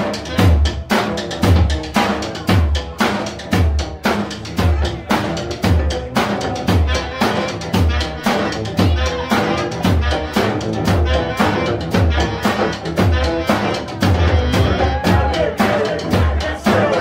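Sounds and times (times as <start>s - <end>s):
drum kit fast beat: 0.0s - 17.0s.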